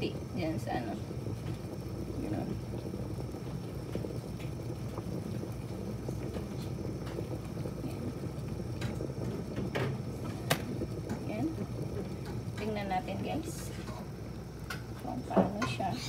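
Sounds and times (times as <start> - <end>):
kettle boiling: 0.0 - 16.0.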